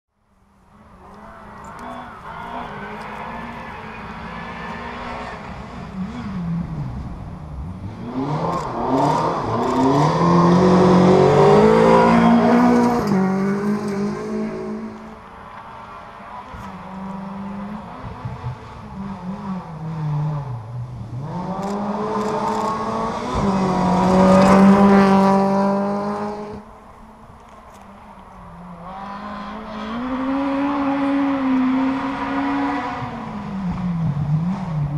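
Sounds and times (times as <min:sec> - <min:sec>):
rally car engines revving: 0:00.6 - 0:34.9.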